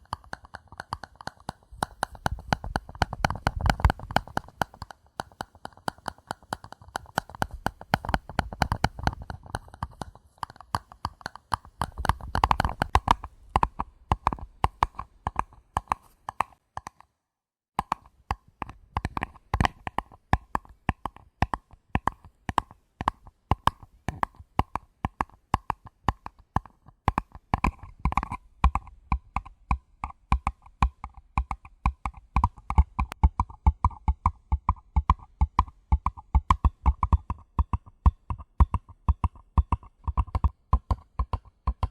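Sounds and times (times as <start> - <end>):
light tapping on paper cups: 0.0 - 17.0, 17.8 - 41.9.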